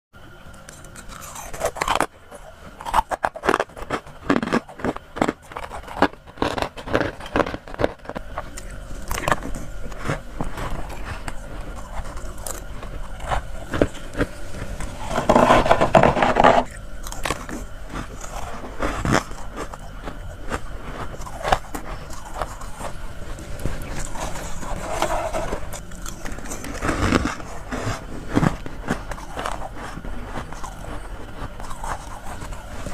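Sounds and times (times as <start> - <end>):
person crunching frost: 0.6 - 32.9.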